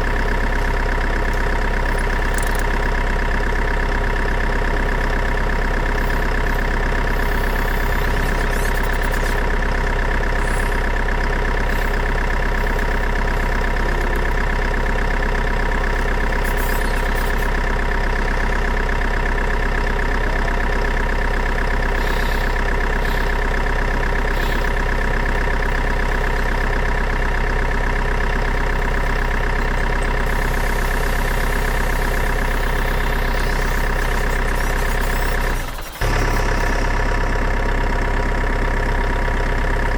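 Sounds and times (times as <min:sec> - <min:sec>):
constant high whine: 0:00.0 - 0:38.1
engine-like drone: 0:00.0 - 0:39.9.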